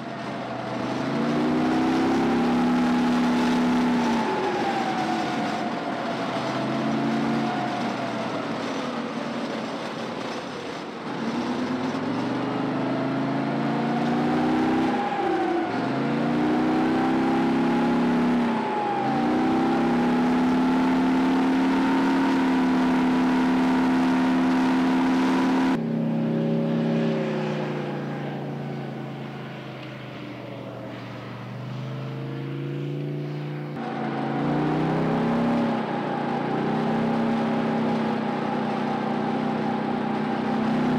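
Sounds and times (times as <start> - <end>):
tank diesel engine whining: 0.0 - 40.9.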